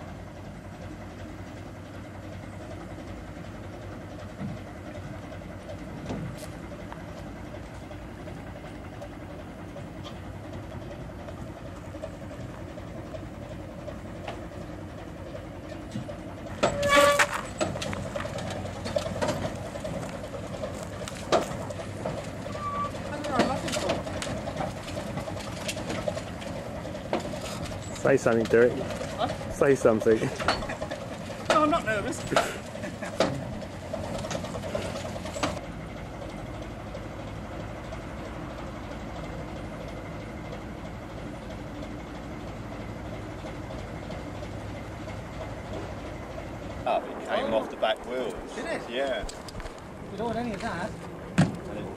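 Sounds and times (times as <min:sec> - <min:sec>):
crane engine running: 0:00.0 - 0:51.9.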